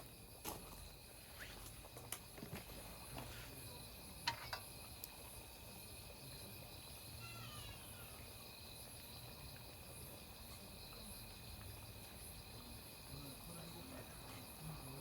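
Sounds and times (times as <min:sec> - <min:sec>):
crickets and insects trilling: 0:00.0 - 0:15.0.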